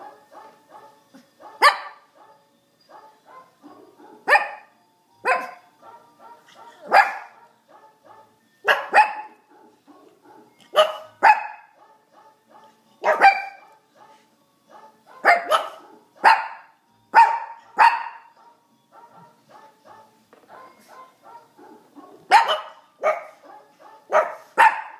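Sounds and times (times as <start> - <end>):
small dog barking: 0.0 - 2.4, 3.0 - 24.9.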